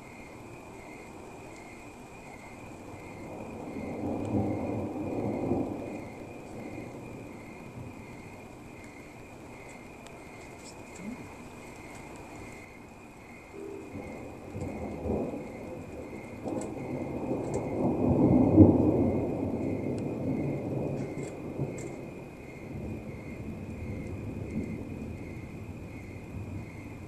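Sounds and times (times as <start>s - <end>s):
rolling thunder rumbling: 0.0s - 27.0s.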